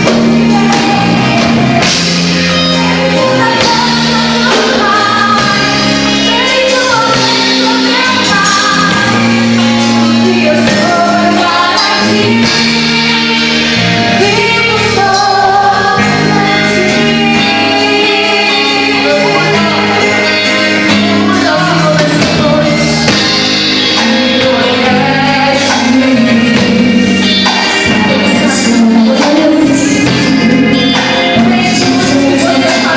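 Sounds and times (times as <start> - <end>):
band playing gospel music: 0.0 - 32.9
people singing: 0.0 - 32.9.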